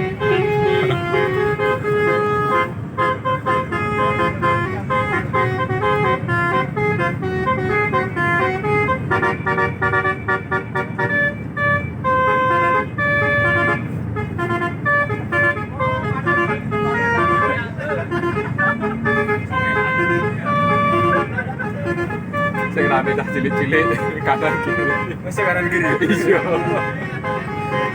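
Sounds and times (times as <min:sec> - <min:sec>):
multi-tone air horn melody: 0:00.0 - 0:27.9.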